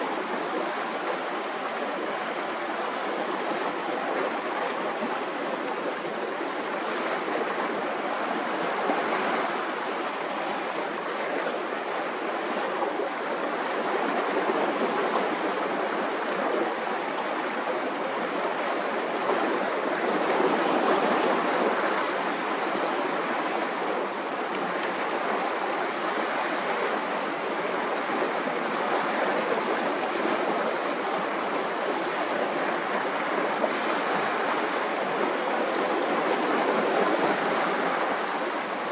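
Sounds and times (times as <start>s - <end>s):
sea waves washing on shore: 0.0s - 38.9s.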